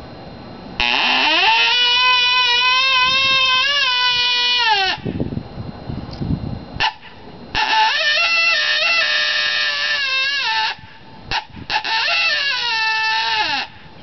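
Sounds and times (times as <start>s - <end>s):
horn howler call: 0.8s - 5.1s, 6.8s - 13.8s.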